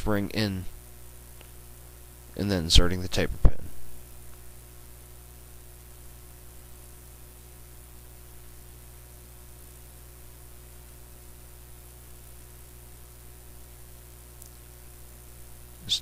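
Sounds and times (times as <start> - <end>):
low electrical hum: 0.0 - 16.0
steady hiss: 0.0 - 16.0.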